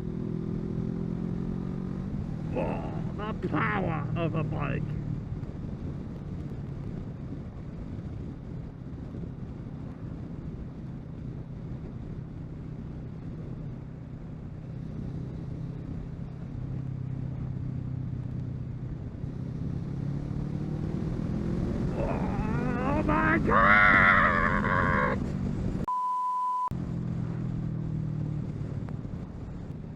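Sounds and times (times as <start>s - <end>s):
motorcycle engine cruising: 0.0s - 25.9s, 26.8s - 29.9s
road noise: 0.0s - 25.9s, 26.7s - 29.9s.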